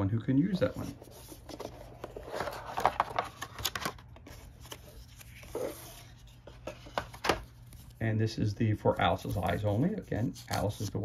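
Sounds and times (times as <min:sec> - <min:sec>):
cards rustling: 0:00.6 - 0:11.0.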